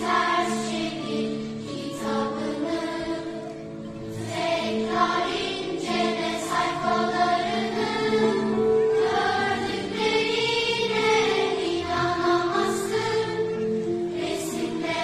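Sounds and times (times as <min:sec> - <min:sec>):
choir singing: 0:00.0 - 0:15.0
string orchestra: 0:00.0 - 0:15.0.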